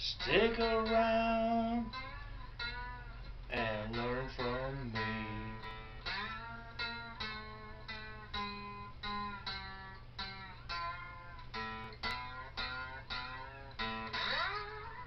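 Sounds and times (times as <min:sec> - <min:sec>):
slide guitar plucked notes: 0:00.0 - 0:15.0
steady low hum: 0:00.0 - 0:15.0.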